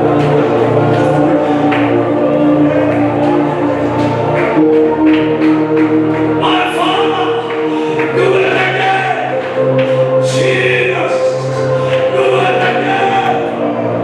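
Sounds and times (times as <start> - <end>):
congregation and choir singing: 0.0 - 14.0
instrumental accompaniment: 0.0 - 14.0.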